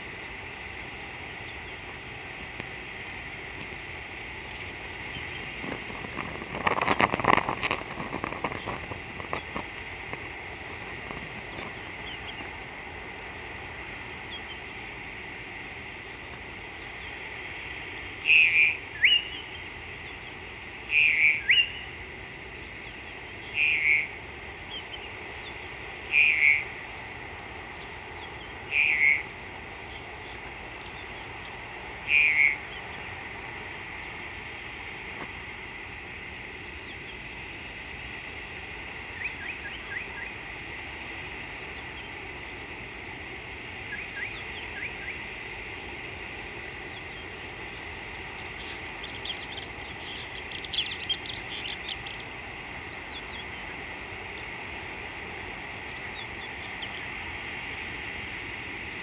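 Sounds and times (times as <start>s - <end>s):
high drone of calling animals: 0.0s - 59.0s.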